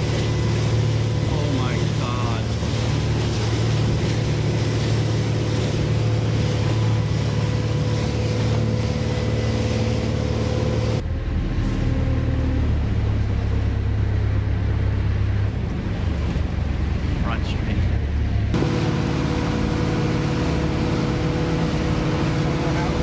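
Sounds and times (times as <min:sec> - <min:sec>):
boat motor running: 0:00.0 - 0:23.0.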